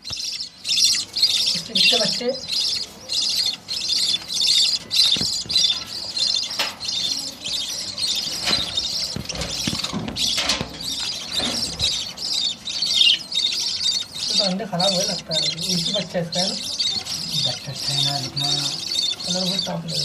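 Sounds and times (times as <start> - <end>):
lovebirds chirping and squawking: 0.0 - 20.0.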